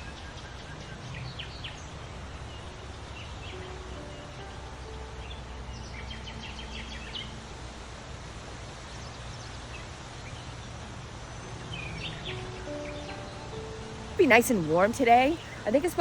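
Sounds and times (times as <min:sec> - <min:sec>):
low outdoor rumble and hiss: 0:00.0 - 0:16.0
songbirds chirping: 0:00.0 - 0:16.0.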